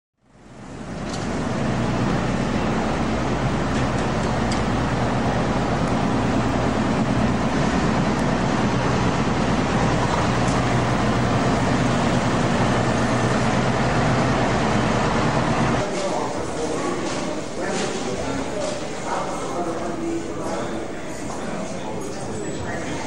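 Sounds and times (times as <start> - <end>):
traffic hum: 0.3 - 23.0.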